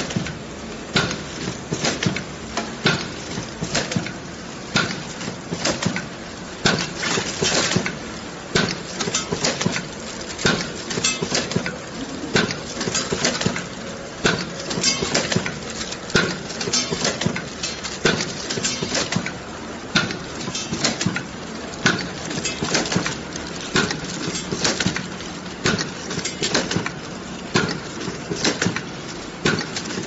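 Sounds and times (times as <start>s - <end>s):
machine clatter: 0.0s - 30.0s
packing machine knocking: 0.0s - 30.0s.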